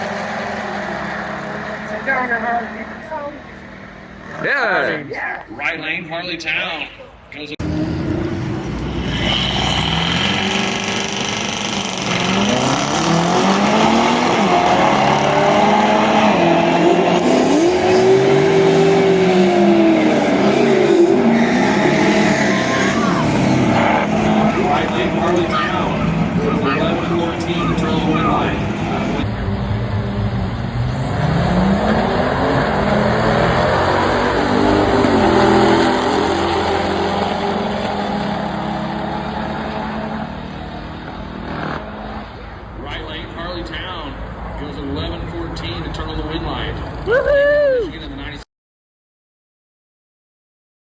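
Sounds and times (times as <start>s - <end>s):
drag racing cars at full throttle: 0.0s - 48.4s.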